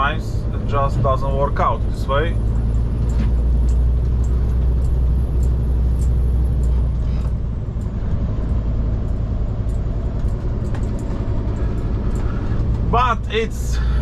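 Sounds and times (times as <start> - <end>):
diesel truck engine running: 0.0 - 14.0
light ticks and rattles: 0.6 - 14.0.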